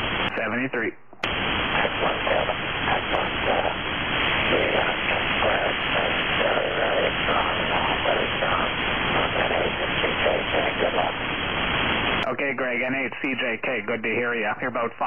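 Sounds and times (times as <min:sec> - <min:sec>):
distorted radio voice: 0:00.0 - 0:11.4, 0:12.1 - 0:15.0
radio band hiss: 0:00.0 - 0:15.0.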